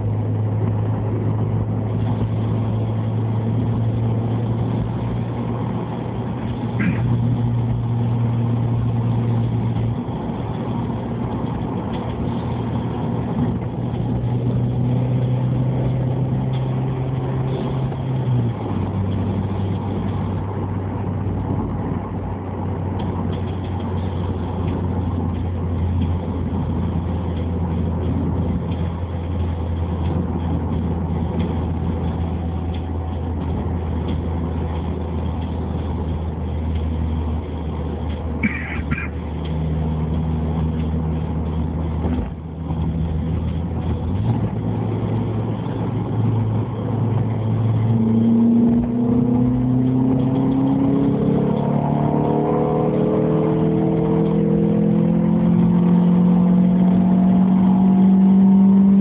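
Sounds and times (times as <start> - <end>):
car exhaust drone in cabin: 0.0 - 59.0.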